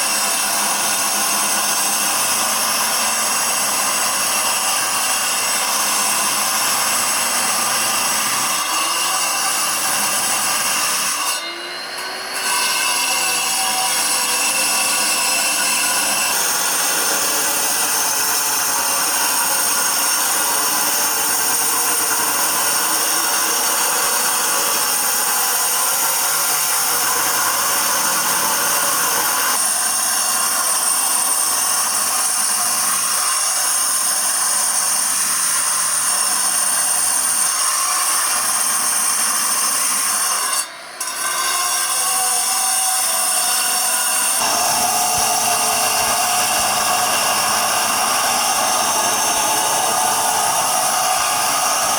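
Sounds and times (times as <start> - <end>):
power tool grinding stone: 0.0 - 51.9.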